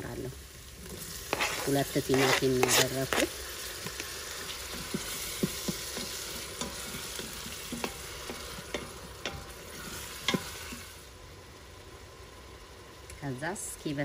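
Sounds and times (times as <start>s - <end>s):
tomatoes and onions sizzling: 0.0s - 14.0s.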